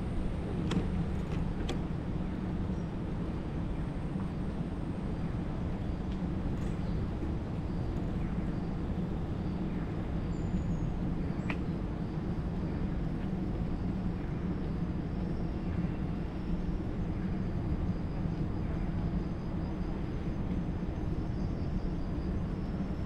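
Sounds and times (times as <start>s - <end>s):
distant city traffic rumble: 0.0s - 23.0s.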